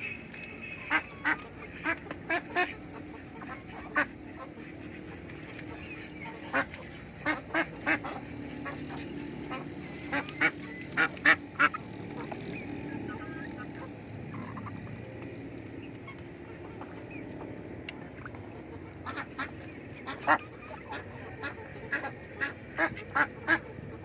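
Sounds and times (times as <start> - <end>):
ducks quacking: 0.0 - 15.0, 15.7 - 24.0
low murmur of ducks: 0.0 - 24.0.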